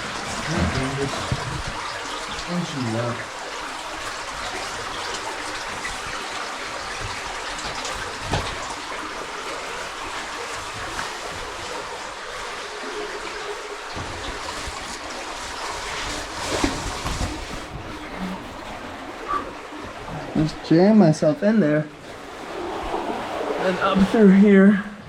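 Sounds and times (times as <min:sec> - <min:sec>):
spring water running: 0:00.0 - 0:25.0.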